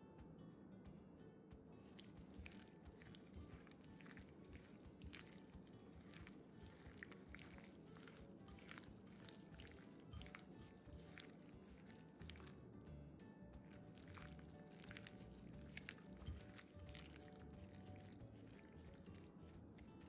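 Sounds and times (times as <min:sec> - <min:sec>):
wet squelching of kneaded chicken: 0:01.8 - 0:12.9, 0:13.6 - 0:20.0.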